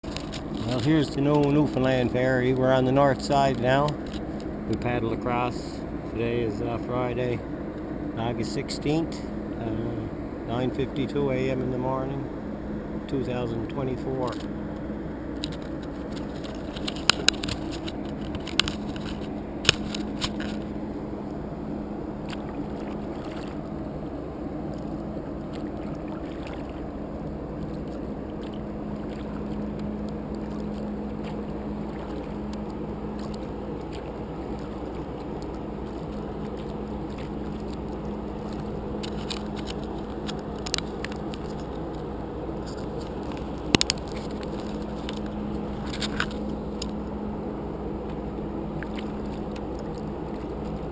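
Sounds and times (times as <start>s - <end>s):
ferry machinery hum: 0.0s - 50.9s.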